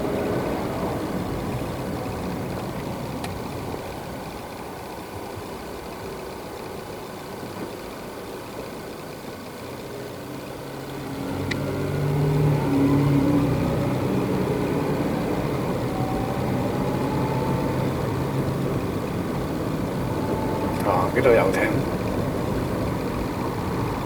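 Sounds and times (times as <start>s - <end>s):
engine running at low speed: 0.0s - 24.0s.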